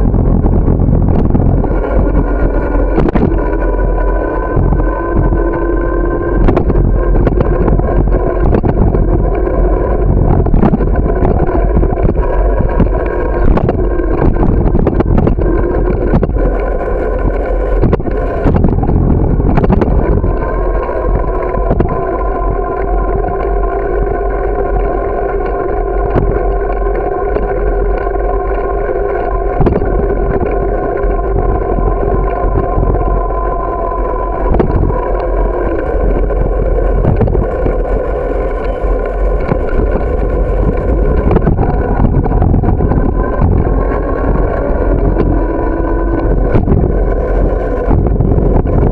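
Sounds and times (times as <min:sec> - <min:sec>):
bicycle rolling rumble: 0:00.0 - 0:48.9
steady whine: 0:00.0 - 0:48.9.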